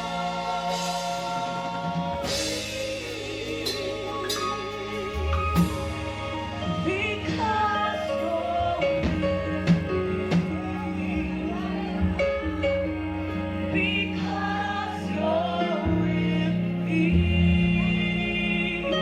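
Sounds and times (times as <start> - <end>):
keyboard and bass: 0.0 - 19.0
praise team singing: 0.0 - 19.0.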